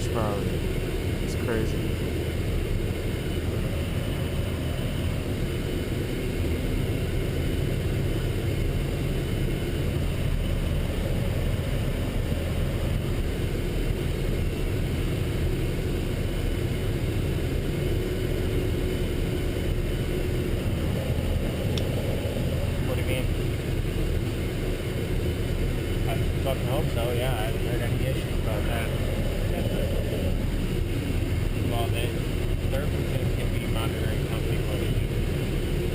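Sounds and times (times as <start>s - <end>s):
truck engine and road rumble: 0.0s - 35.9s.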